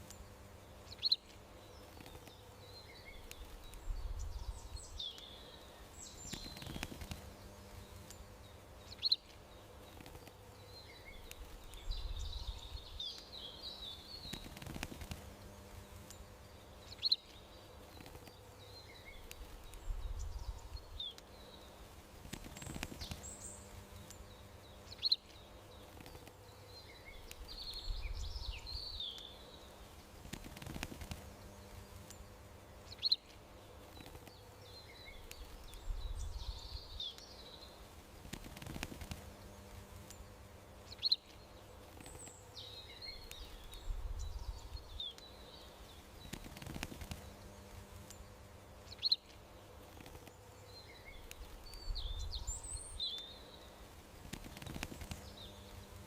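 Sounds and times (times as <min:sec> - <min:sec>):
faint steady hum: 0:00.0 - 0:56.0
small birds chirping: 0:00.0 - 0:56.0.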